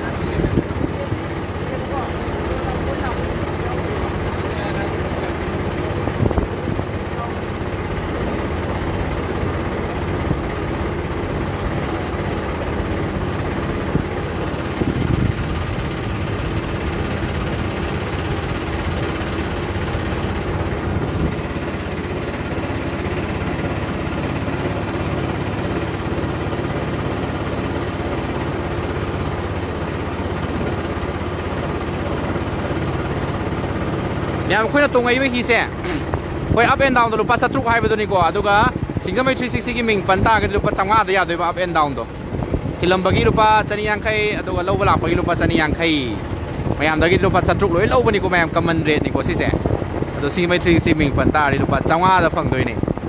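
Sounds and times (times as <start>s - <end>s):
motorboat engine humming: 0.0s - 53.0s.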